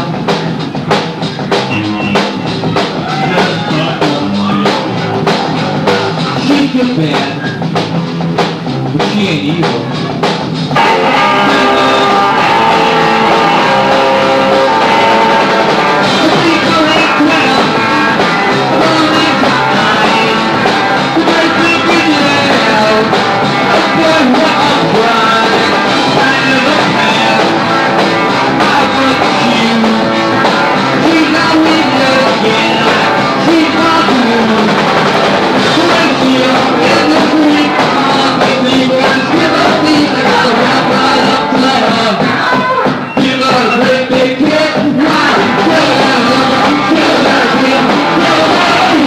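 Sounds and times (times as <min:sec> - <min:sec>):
rock band playing: 0:00.0 - 0:49.0.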